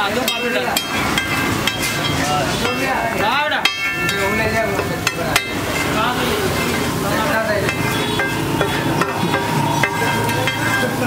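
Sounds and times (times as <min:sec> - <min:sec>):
egg mixture sizzling: 0:00.0 - 0:11.0
sharp metal knocks: 0:00.2 - 0:11.0
spatula scraping on griddle: 0:00.9 - 0:11.0.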